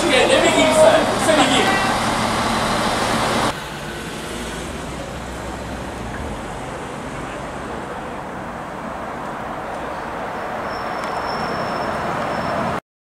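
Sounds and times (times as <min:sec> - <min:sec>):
passing vehicles rumbling: 0:00.0 - 0:12.8
railway platform noise: 0:00.0 - 0:12.8
street traffic: 0:00.0 - 0:12.8.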